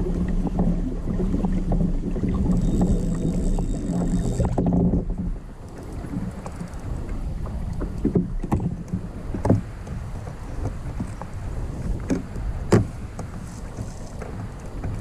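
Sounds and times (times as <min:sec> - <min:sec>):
paddle knocks and splashes: 0:00.0 - 0:15.0
water and wind rumble: 0:00.0 - 0:15.0.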